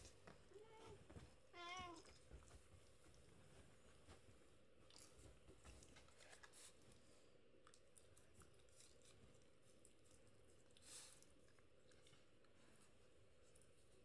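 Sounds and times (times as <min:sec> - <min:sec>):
faint rustles and ticks: 0:00.0 - 0:14.0.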